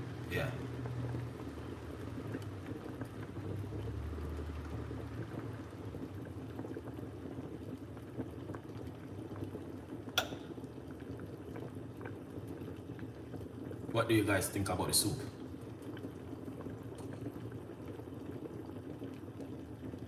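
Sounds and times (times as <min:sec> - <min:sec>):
soup bubbling in a pot: 0:00.0 - 0:20.0.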